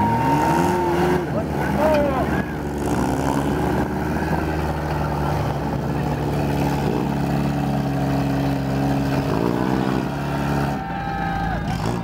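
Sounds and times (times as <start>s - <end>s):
car engines droning at high revs: 0.0s - 12.0s.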